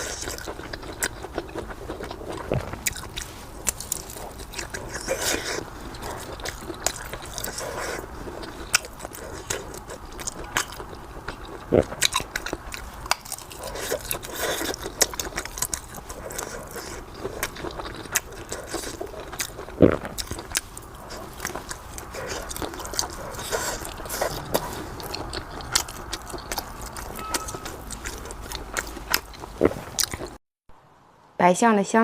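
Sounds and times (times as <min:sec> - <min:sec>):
person chewing: 0:00.0 - 0:30.4.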